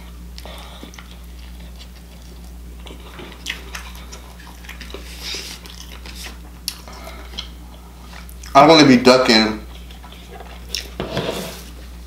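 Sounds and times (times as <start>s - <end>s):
person chewing: 0.0s - 8.6s, 9.7s - 11.0s.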